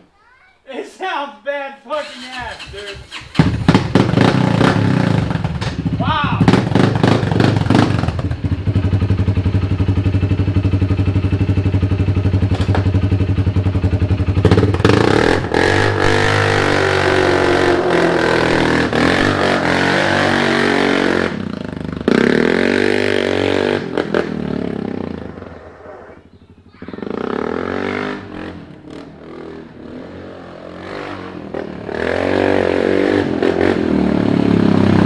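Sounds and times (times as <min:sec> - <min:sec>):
quad bike engine revving: 0:02.0 - 0:35.0.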